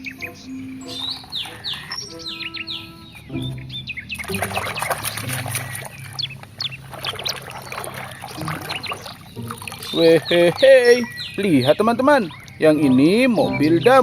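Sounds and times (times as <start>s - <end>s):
bird chirps: 0.0s - 14.0s
water splashing and trickling: 0.0s - 14.0s.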